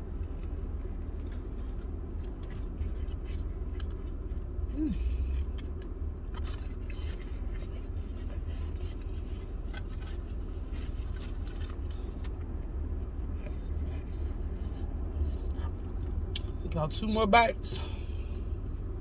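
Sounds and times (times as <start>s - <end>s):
person chewing food: 0.0s - 16.6s
low rumble of car cabin: 0.0s - 19.0s.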